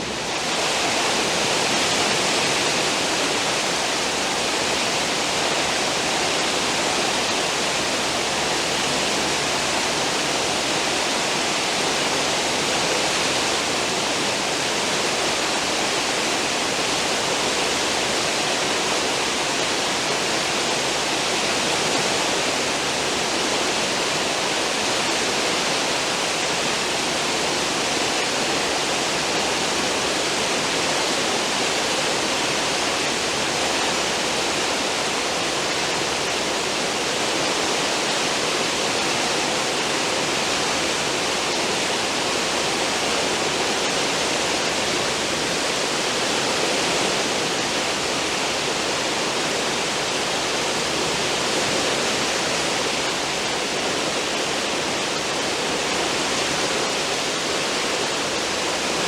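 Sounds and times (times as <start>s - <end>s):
churning water rushing: 0.0s - 59.0s.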